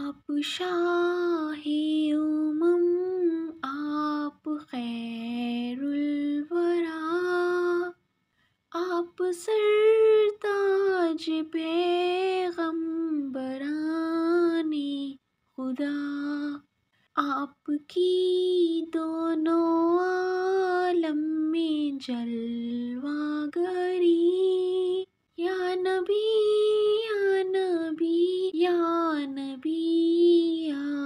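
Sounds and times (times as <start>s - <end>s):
woman singing: 0.0s - 8.0s, 8.7s - 31.0s.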